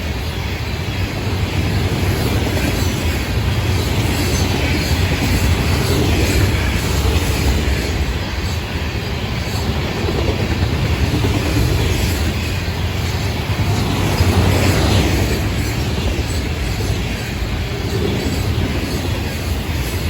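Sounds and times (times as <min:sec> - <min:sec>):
freight train wheels on rail: 0:00.0 - 0:20.0.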